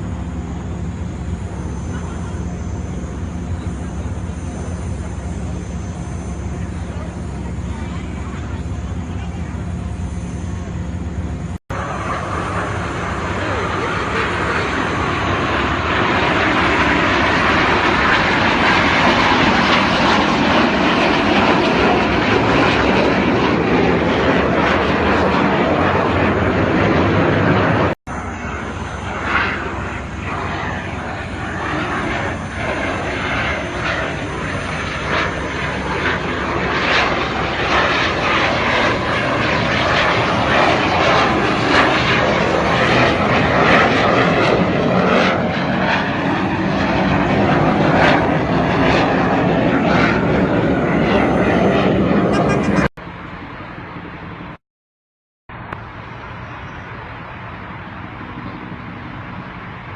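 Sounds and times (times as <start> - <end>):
jet aircraft engine noise: 0.0 - 54.6, 55.5 - 59.9.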